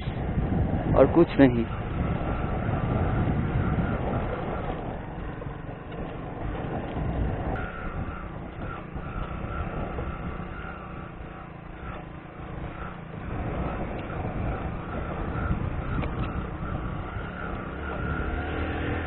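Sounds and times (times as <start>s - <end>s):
motor vehicle running: 0.0s - 19.0s.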